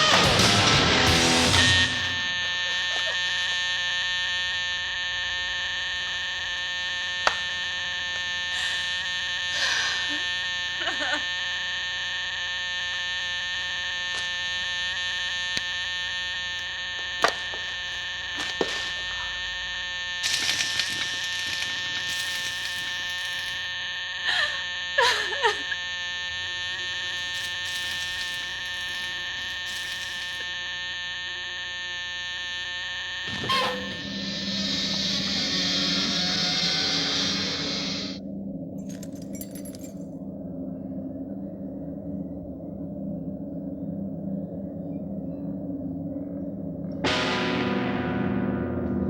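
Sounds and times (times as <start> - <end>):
electronic buzzing drone: 0.0 - 49.0.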